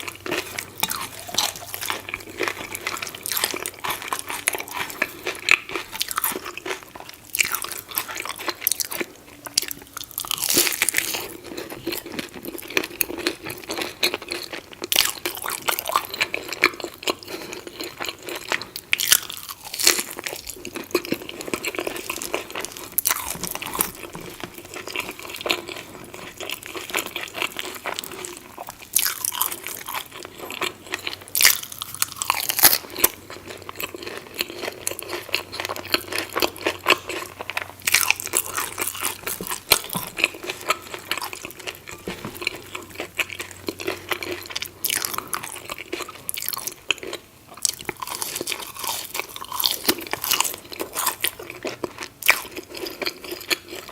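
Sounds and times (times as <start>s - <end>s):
crunchy food being chewed: 0.0s - 53.9s.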